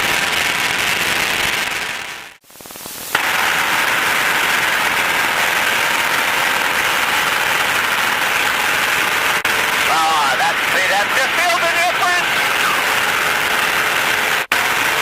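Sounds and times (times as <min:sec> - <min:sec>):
aircraft engine and propeller hiss: 0:02.4 - 0:15.0.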